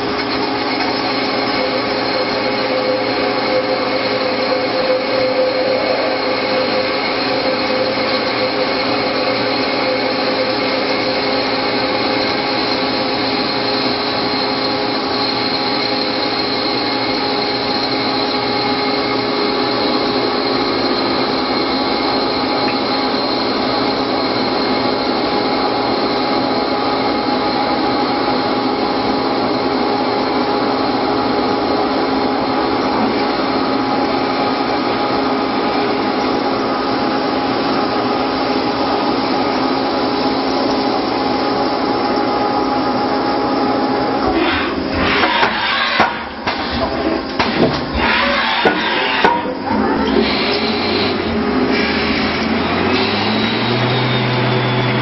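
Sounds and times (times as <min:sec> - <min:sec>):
lathe cutting with coolant spray: 0:00.0 - 0:55.0
machine whining tones: 0:00.0 - 0:55.0.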